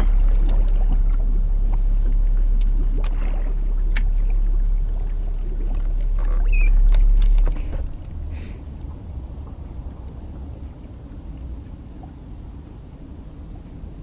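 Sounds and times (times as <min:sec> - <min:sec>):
heavy low rumble: 0:00.0 - 0:14.0
wind buffeting microphone: 0:00.0 - 0:14.0.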